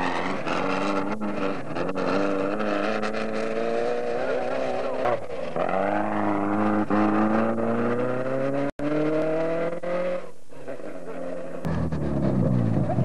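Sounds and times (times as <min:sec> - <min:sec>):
buggy engine accelerating: 0:00.0 - 0:13.0.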